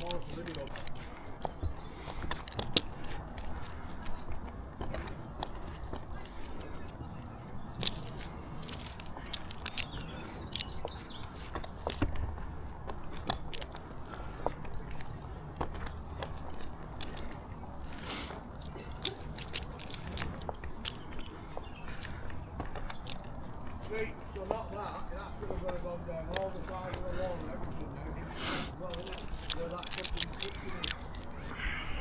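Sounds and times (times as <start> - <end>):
metal carabiners clinking: 0.0 - 1.3, 2.0 - 12.4, 13.0 - 14.2, 15.7 - 27.8, 28.4 - 31.4
rustling in tree: 0.0 - 32.0.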